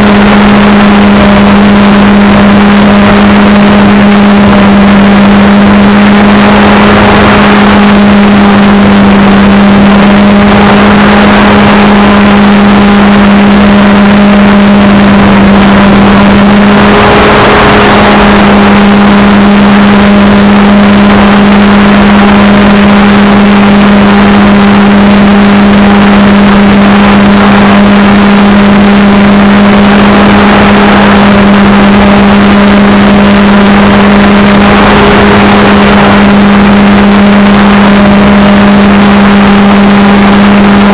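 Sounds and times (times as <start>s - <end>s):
model airplane motor droning: 0.0s - 40.9s
rushing air: 0.0s - 40.9s.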